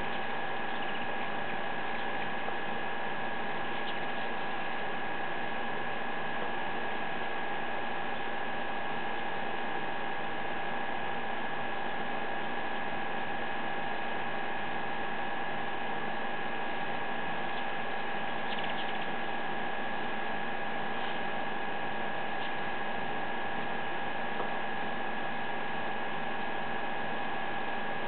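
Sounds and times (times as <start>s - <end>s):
machine hum with high tones: 0.0s - 28.0s.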